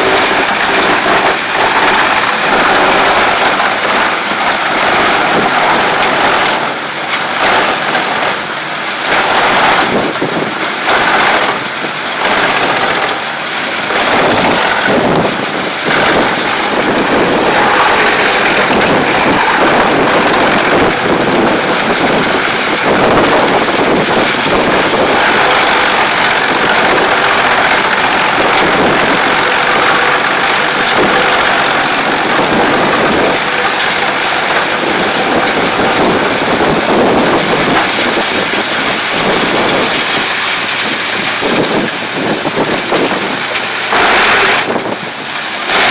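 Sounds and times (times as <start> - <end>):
wood chipper running: 0.0 - 45.9.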